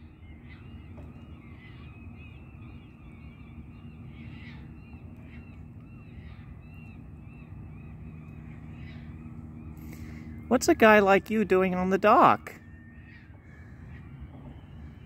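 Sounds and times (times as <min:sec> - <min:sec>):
birds chirping: 0:00.0 - 0:15.0
low steady hum: 0:00.0 - 0:15.0.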